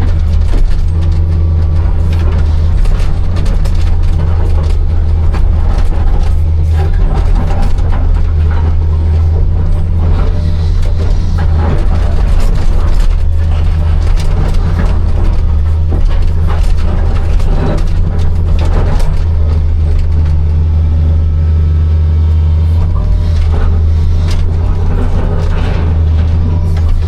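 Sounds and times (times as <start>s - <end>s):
bucket clanking and scraping stone: 0.0s - 20.6s, 22.8s - 27.0s
excavator diesel engine running: 0.0s - 27.0s.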